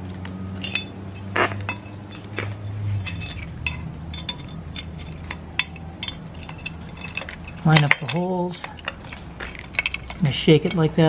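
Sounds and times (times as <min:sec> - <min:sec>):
low steady hum: 0:00.0 - 0:11.0
metallic clinks and taps: 0:00.0 - 0:11.0.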